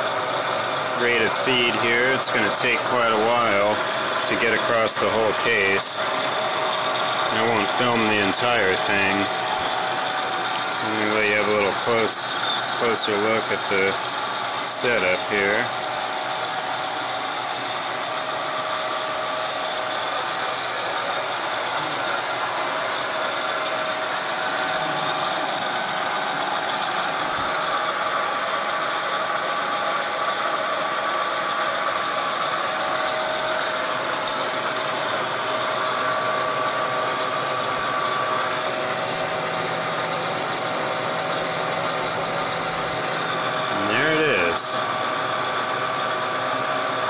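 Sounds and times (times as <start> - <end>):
milling machine humming: 0.0 - 47.0.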